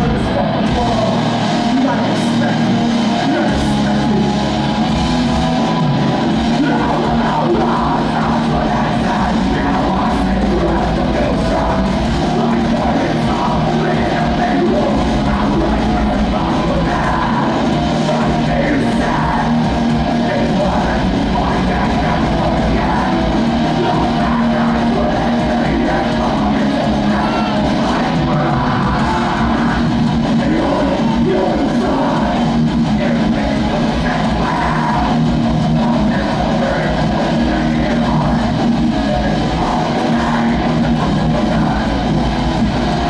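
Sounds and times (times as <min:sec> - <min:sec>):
bass guitar: 0:00.0 - 0:43.0
drums: 0:00.0 - 0:43.0
electric guitars: 0:00.0 - 0:43.0
shouted lead vocal: 0:00.0 - 0:43.0.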